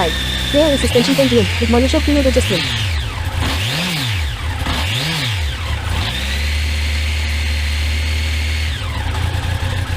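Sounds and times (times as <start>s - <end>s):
motorcycle engine revving: 0.0s - 9.9s.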